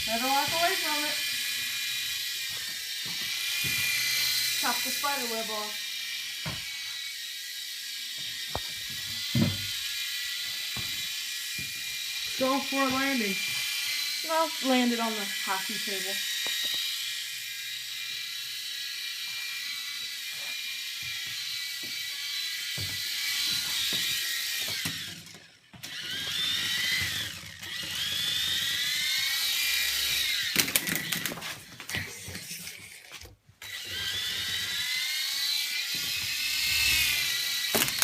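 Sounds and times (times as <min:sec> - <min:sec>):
toy helicopter rotor whining: 0:00.0 - 0:38.0.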